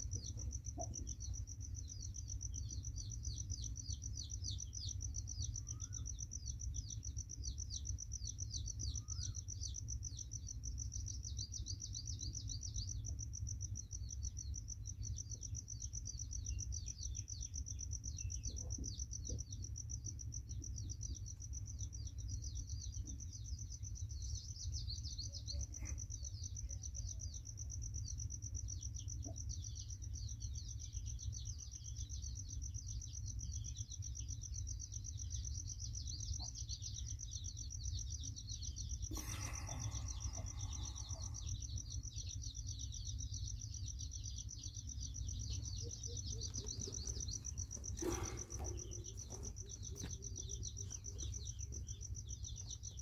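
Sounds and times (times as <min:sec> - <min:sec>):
insect trill: 0:00.0 - 0:53.0
small birds chirping: 0:00.0 - 0:53.0.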